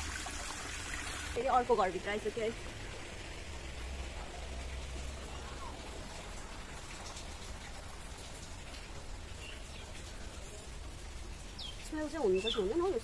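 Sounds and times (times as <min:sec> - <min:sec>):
water falling and spattering: 0:00.0 - 0:13.0.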